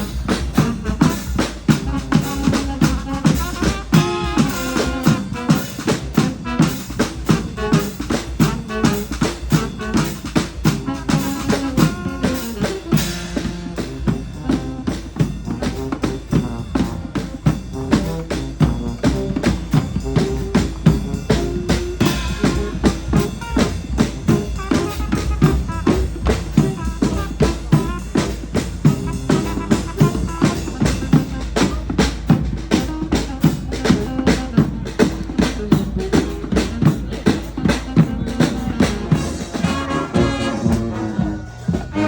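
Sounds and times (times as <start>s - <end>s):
horns playing a melody: 0.0s - 42.0s
snare and bass drum beat: 0.0s - 42.0s.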